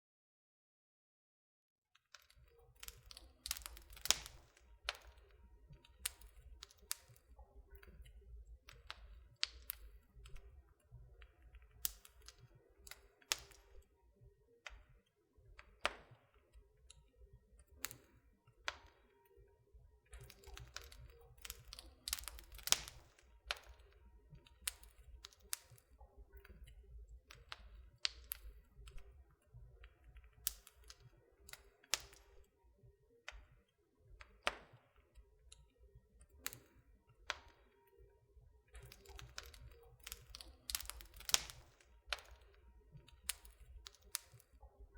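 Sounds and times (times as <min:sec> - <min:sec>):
wood fire crackling and popping: 0:02.2 - 0:14.0, 0:14.6 - 0:19.3, 0:20.0 - 0:32.5, 0:34.1 - 0:37.9, 0:38.6 - 0:44.9.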